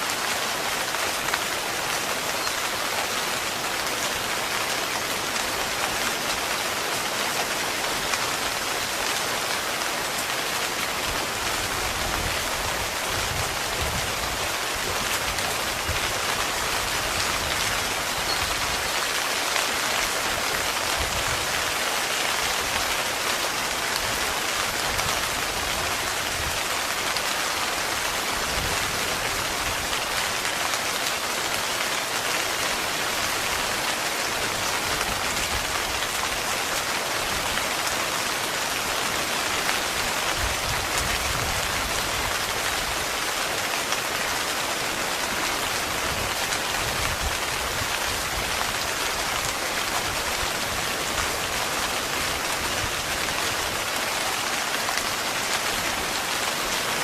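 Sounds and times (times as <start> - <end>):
heavy rain on tent fabric: 0.0 - 57.0.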